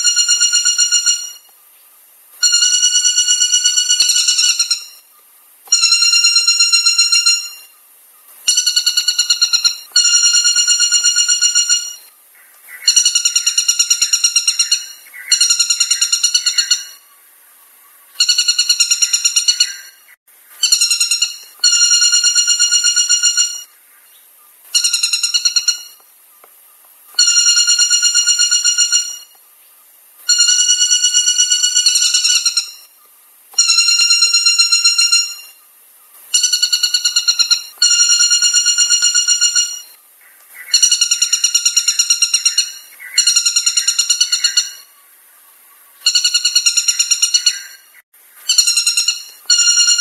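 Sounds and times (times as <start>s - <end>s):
woodpecker calling: 0.0s - 1.5s, 2.4s - 17.2s, 17.8s - 29.5s, 30.2s - 35.6s, 36.2s - 45.0s, 45.8s - 50.0s
wavering bird call: 2.4s - 7.8s, 8.4s - 17.1s, 17.7s - 26.0s, 30.2s - 33.0s, 33.6s - 40.0s, 40.6s - 45.0s, 46.0s - 50.0s.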